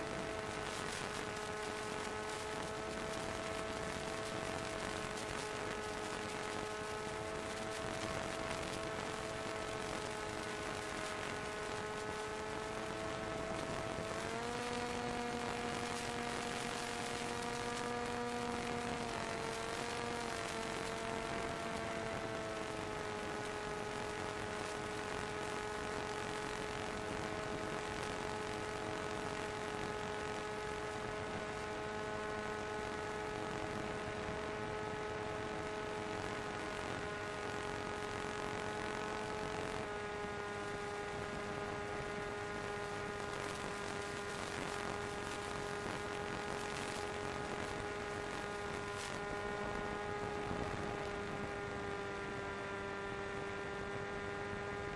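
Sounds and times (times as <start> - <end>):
model plane motor whine: 0.0 - 54.9.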